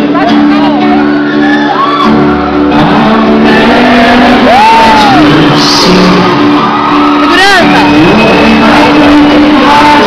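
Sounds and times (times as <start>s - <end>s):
live rock band playing: 0.0s - 10.0s
crowd shouting and whooping: 0.1s - 10.0s.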